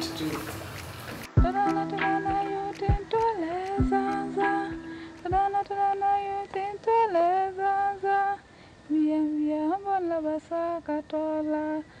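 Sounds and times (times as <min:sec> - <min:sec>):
woman singing: 0:01.3 - 0:12.0.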